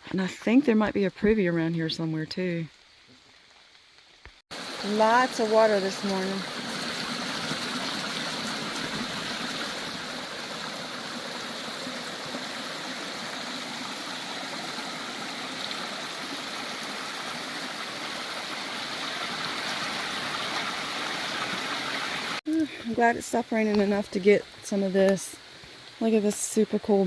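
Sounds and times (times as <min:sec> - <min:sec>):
creek water flowing: 0:01.8 - 0:27.0.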